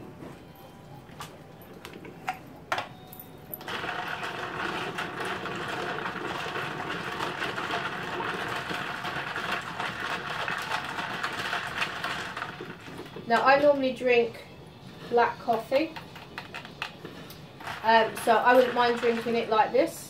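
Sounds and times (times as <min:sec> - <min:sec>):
ice rattling in plastic tumbler: 0:03.5 - 0:20.0.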